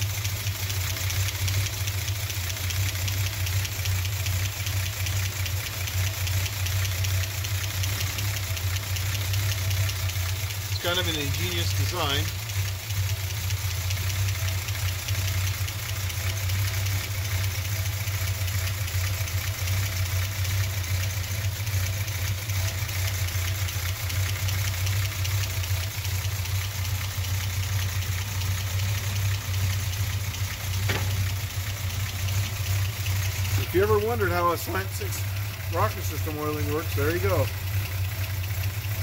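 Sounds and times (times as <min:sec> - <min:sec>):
engine idling with valve ticking: 0:00.0 - 0:39.0.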